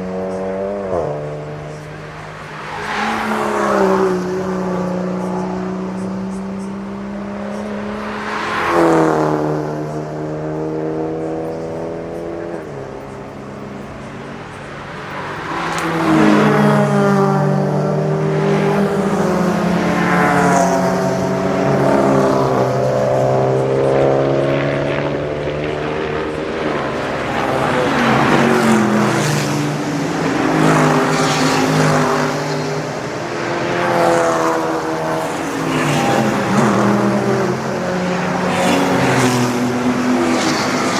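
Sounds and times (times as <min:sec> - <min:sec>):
race cars passing at speed: 0:00.0 - 0:40.9.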